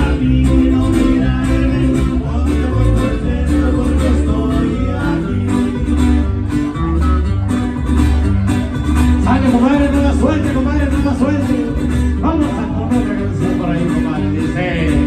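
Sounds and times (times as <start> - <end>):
ranchero band music: 0.0 - 15.0.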